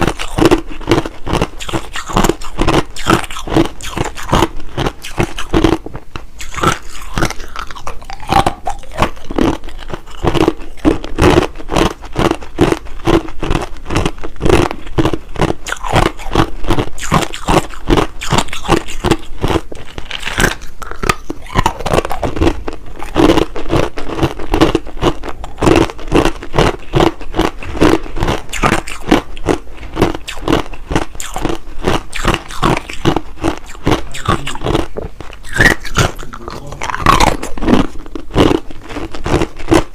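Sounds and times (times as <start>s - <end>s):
ice crunching between teeth: 0.0s - 39.9s.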